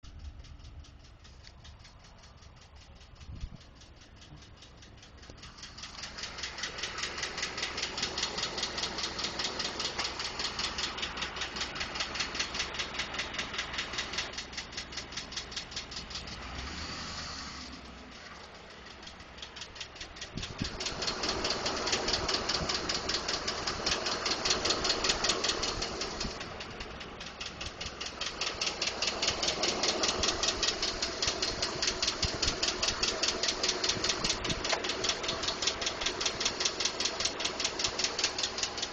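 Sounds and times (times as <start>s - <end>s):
engine running: 0.0s - 38.9s
fast ticking engine knock: 0.0s - 38.9s.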